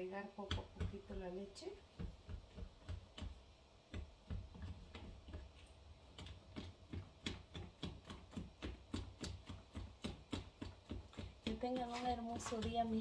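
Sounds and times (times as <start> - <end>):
whisk beating batter in plastic bowl: 0.0 - 13.0.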